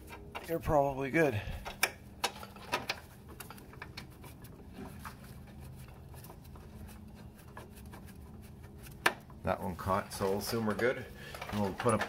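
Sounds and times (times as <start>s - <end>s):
metallic clicks and scrapes: 1.6s - 12.0s.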